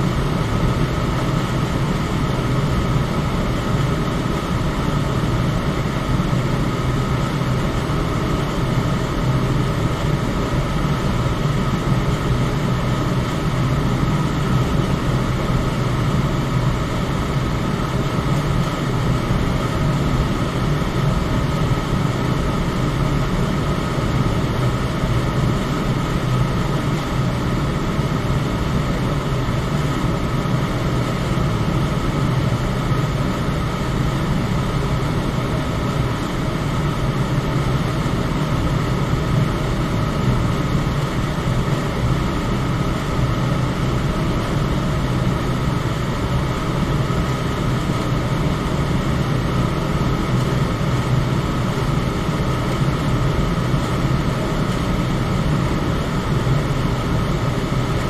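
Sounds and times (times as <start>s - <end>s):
electric fan whooshing: 0.0s - 58.0s
faint steady whine: 0.0s - 58.0s.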